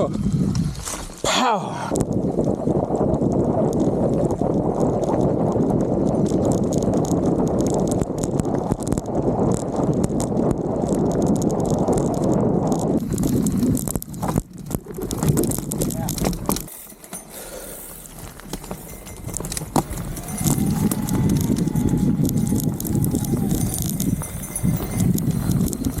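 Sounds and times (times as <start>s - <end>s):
bike rattling and knocking: 0.0s - 26.0s
tyres rumbling on dirt: 0.0s - 26.0s.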